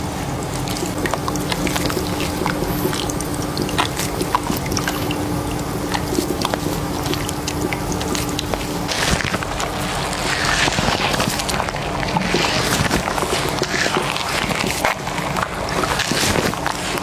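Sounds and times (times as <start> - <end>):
constant low hum: 0.0 - 17.0
running water splashing: 0.0 - 17.0.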